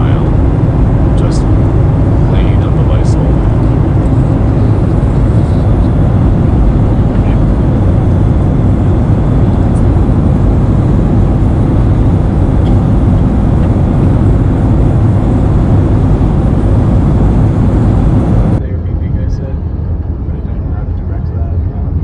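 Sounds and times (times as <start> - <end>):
rushing air: 0.0 - 20.3
airliner engines rumbling: 0.0 - 22.0.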